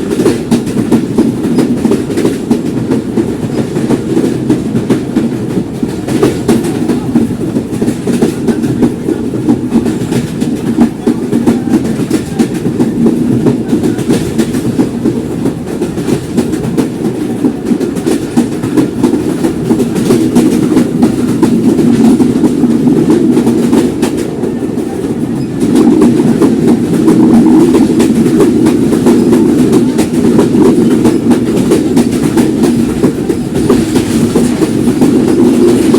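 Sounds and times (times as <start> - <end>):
train wheels rattling on rails: 0.0 - 35.9.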